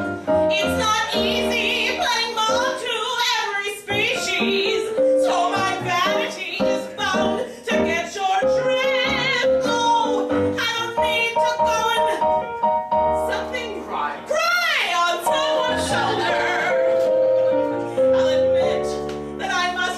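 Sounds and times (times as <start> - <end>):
piano accompaniment: 0.0 - 19.9
woman singing: 0.5 - 12.4, 14.3 - 16.8, 18.0 - 19.9.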